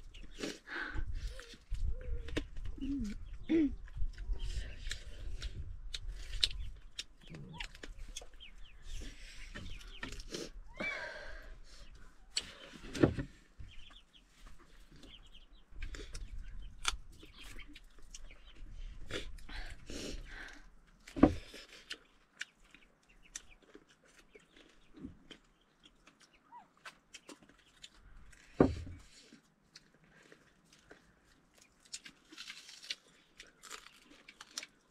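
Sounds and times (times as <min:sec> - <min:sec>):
eating crunches: 0:00.0 - 0:09.0, 0:15.0 - 0:34.9.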